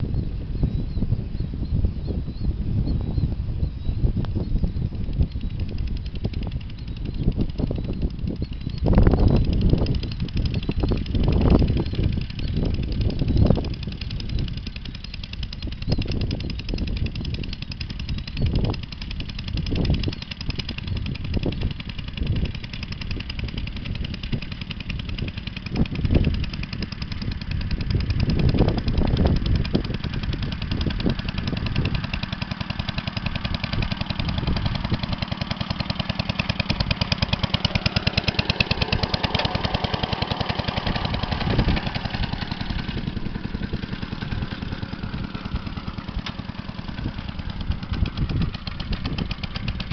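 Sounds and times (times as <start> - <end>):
single-cylinder engine running: 4.0 - 49.9.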